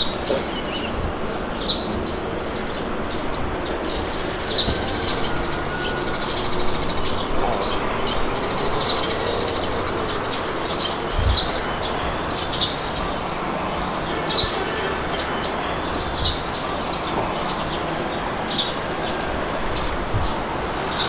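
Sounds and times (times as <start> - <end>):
birds chirping: 0.0 - 21.0
wind blowing: 0.0 - 21.0.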